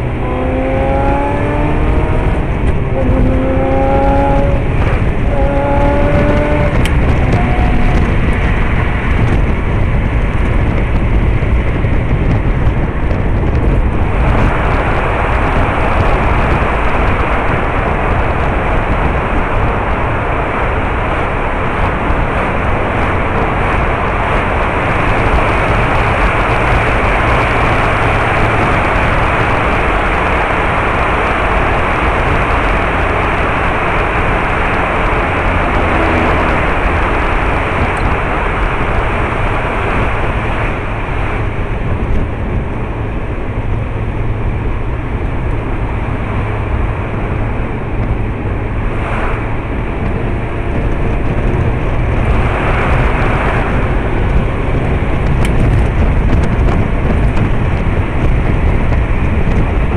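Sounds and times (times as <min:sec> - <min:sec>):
tyre and wind rumble: 0:00.0 - 0:59.9.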